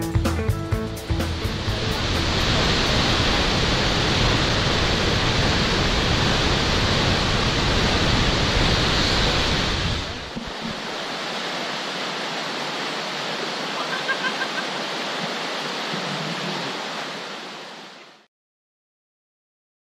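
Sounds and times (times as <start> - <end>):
waterfall rushing: 0.7 - 18.3
creek rushing: 0.8 - 18.3.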